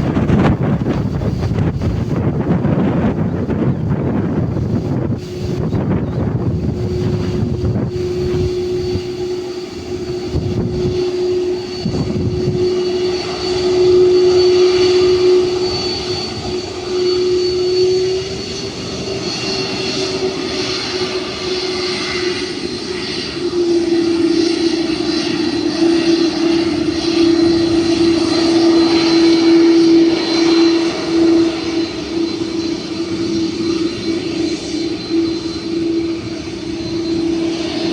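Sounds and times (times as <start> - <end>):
jet engines humming and whistling: 0.0 - 37.9
wind buffeting microphone: 0.0 - 37.9.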